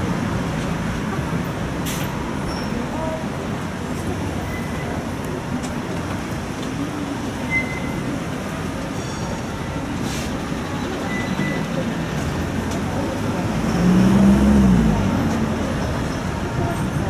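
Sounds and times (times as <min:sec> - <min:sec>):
road traffic driving past: 0:00.0 - 0:17.0.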